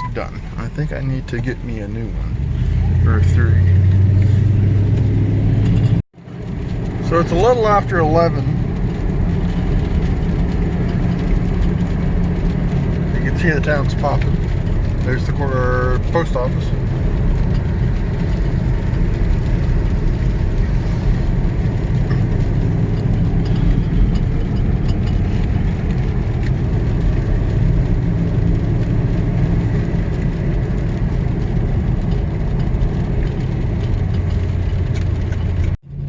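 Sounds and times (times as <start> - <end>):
truck engine droning: 0.0 - 36.0
tyre and road noise: 0.0 - 36.0.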